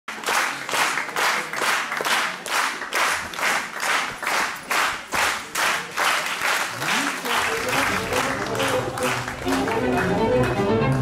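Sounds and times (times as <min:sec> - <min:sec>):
audience clapping in unison: 0:00.1 - 0:11.0.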